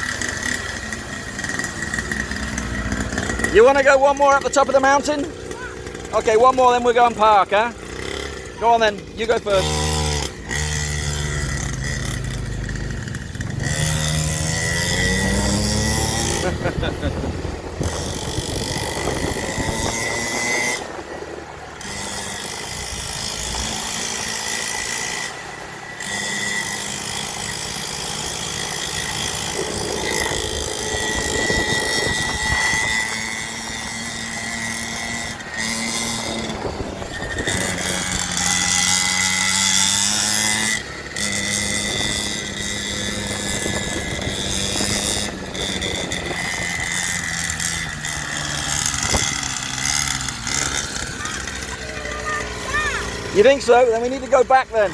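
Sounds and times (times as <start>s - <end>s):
dirt bike engine buzzing: 0.0s - 54.9s.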